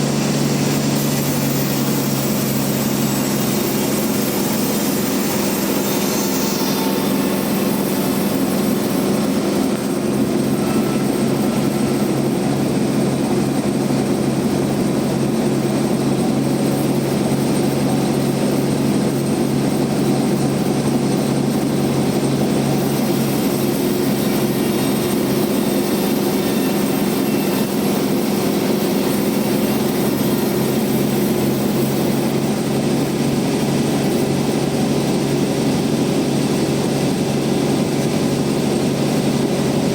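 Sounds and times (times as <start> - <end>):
bandsaw sawmill humming: 0.0 - 39.9.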